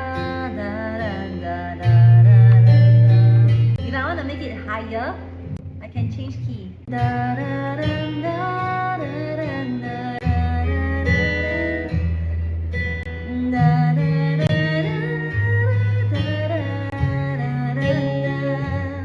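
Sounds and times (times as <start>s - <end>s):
woman singing: 0.0s - 4.2s, 6.9s - 12.3s, 13.3s - 19.0s
strummed guitar chords: 0.0s - 19.0s.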